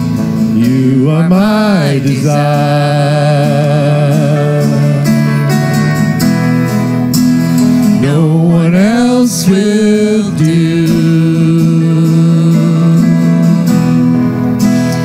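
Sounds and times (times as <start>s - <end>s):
person singing melody: 0.0s - 6.2s, 8.0s - 15.0s
acoustic guitar: 0.0s - 15.0s
bass: 0.0s - 15.0s
drums: 0.0s - 15.0s.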